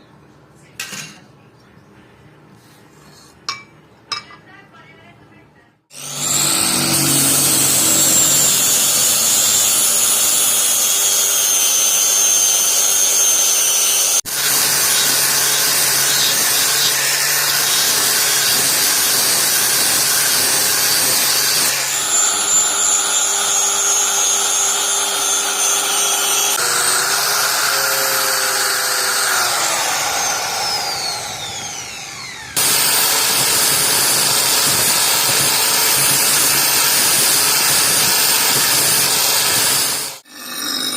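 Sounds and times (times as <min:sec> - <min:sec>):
power tool motor whining: 0:05.9 - 0:40.9.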